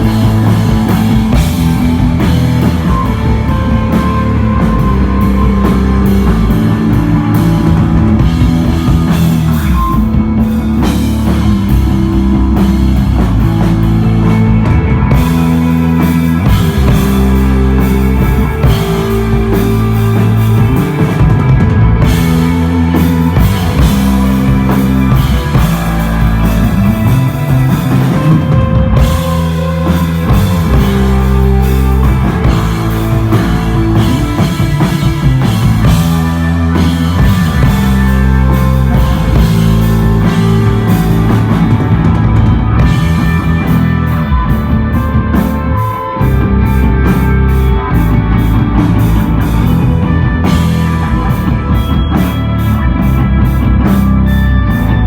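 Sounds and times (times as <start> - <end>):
drum kit: 0.0 - 55.0
electric guitar: 0.0 - 55.0
live rock band playing loud: 0.0 - 55.0
stepping bass notes: 0.0 - 55.0.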